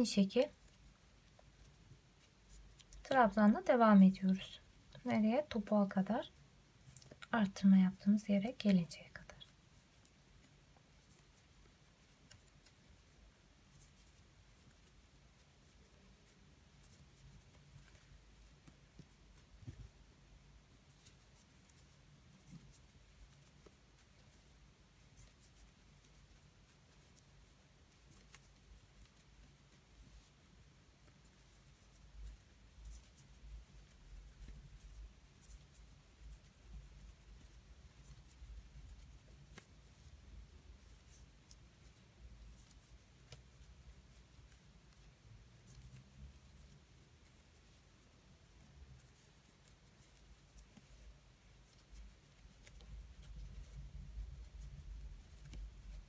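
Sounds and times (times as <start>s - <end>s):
crochet hook scratching yarn: 0.0s - 56.0s
low room hum: 0.0s - 56.0s.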